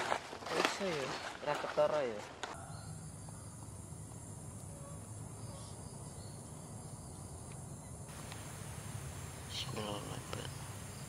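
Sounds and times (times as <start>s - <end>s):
forest insects chirring: 0.2s - 11.0s.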